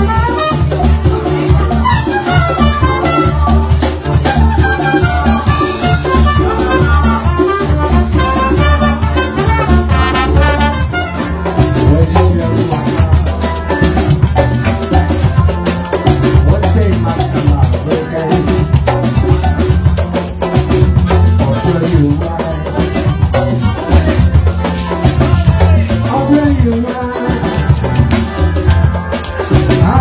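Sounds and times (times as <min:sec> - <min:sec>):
bass line: 0:00.0 - 0:30.0
conga drums: 0:00.0 - 0:30.0
drum kit: 0:00.0 - 0:30.0
keyboard: 0:00.0 - 0:30.0.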